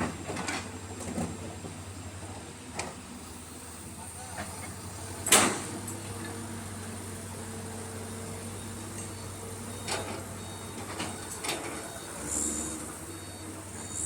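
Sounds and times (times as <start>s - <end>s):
excavator diesel engines running: 0.0s - 14.0s.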